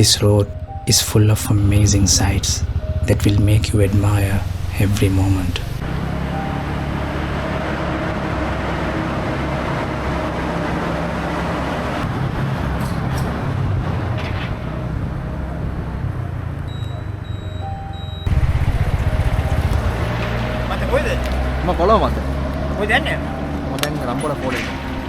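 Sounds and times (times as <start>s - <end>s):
road noise: 0.0s - 25.0s
motorcycle engine running: 1.4s - 25.0s.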